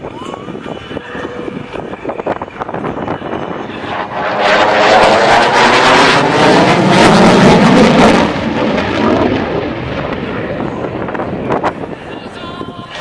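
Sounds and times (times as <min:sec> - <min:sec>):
aircraft passing overhead: 0:00.0 - 0:13.0.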